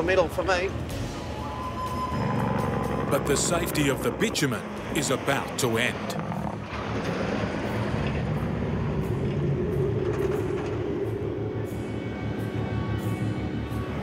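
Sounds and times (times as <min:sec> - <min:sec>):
road noise: 0:00.0 - 0:14.0
diesel engine droning: 0:00.7 - 0:14.0.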